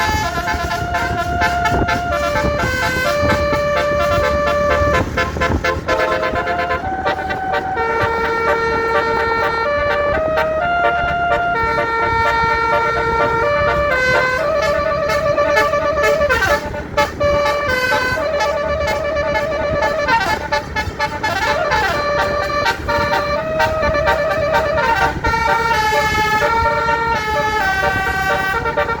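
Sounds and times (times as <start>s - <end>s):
musical bus horn playing tune: 0.0s - 29.0s.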